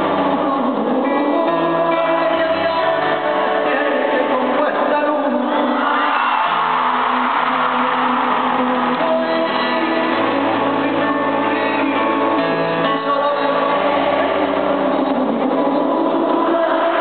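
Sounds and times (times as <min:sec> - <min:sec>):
pop ballad over sound system: 0:00.0 - 0:17.0.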